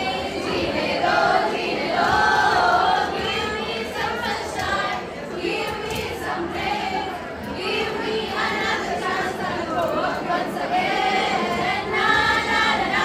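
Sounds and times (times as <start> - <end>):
women singing in unison: 0.0 - 13.0.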